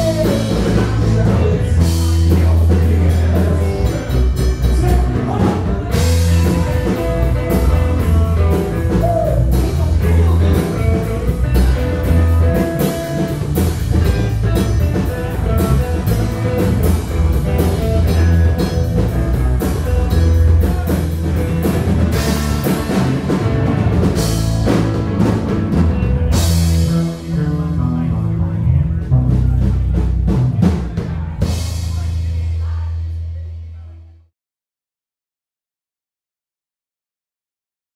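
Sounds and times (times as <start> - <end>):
electric guitar: 0.0 - 31.9
electric bass line: 0.0 - 34.2.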